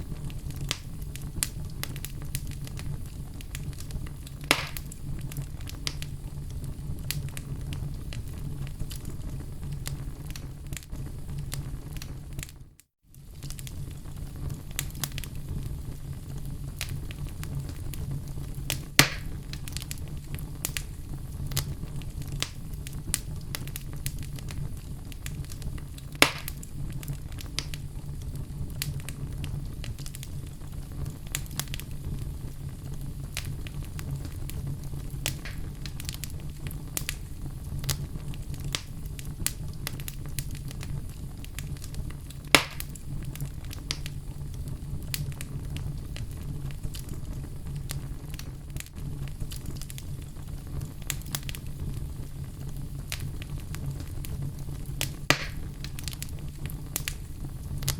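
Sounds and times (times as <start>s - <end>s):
fire low rumble: 0.0s - 57.9s
fire snaps and pops: 0.0s - 57.9s.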